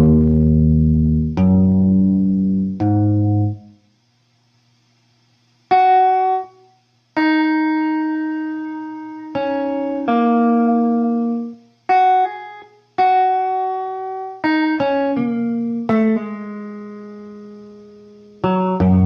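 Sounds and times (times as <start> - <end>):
electric guitar blues lick: 0.0 - 3.7, 5.7 - 6.6, 7.2 - 17.6, 18.4 - 19.0.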